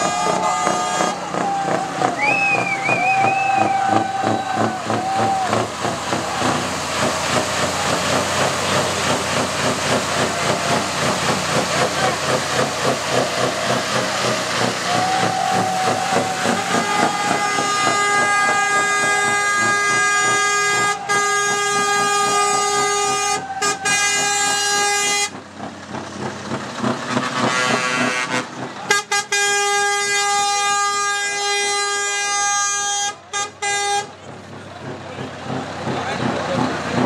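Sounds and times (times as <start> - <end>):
truck air horn blasts: 0.0 - 25.5, 26.8 - 34.3.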